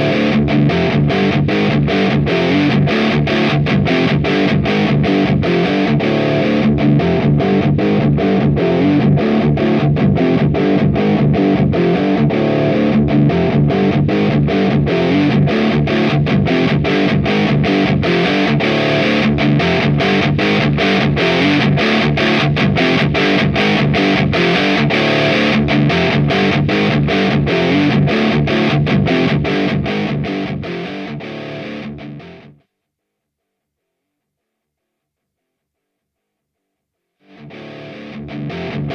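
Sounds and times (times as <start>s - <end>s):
distorted electric guitar riff: 0.0s - 32.6s, 37.2s - 38.9s.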